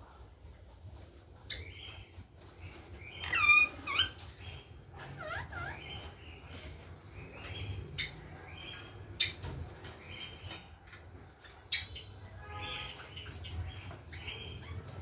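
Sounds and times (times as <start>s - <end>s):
parakeet chirping and chattering: 1.1s - 15.0s.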